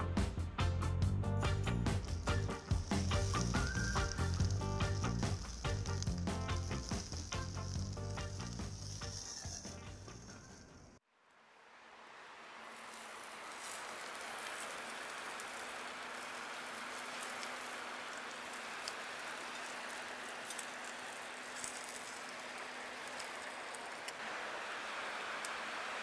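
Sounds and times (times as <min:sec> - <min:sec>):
wood fire crackling and popping: 0:01.4 - 0:10.6, 0:12.8 - 0:26.0.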